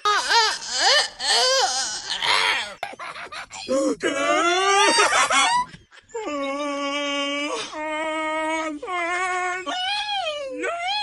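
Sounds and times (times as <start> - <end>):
wailing cry: 0.0 - 11.0.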